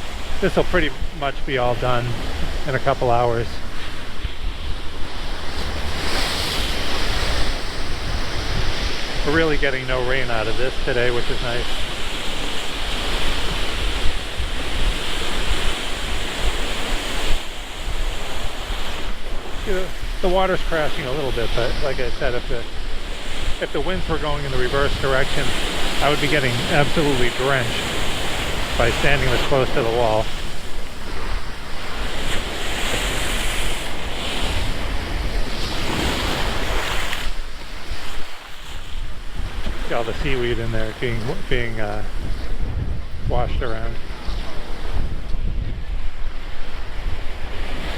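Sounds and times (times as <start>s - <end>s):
surf crashing against a seawall: 0.0s - 47.9s
wind buffeting the microphone: 0.0s - 47.9s.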